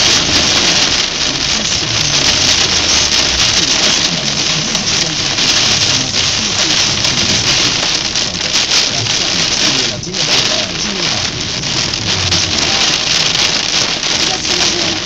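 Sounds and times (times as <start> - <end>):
heavy rain on car windshield: 0.0 - 15.0.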